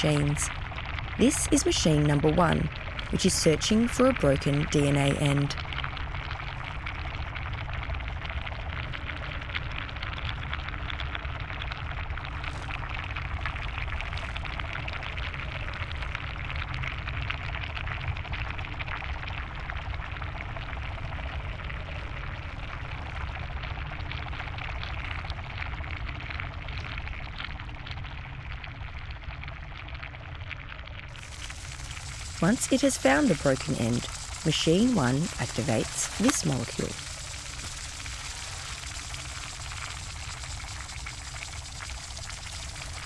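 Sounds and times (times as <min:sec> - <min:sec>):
fizzing crackling water-like noise: 0:00.0 - 0:43.0.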